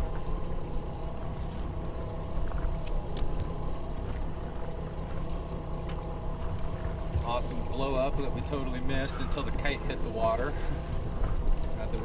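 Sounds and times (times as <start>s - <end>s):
outboard motors rumbling: 0.0s - 12.0s
water noise: 0.0s - 12.0s.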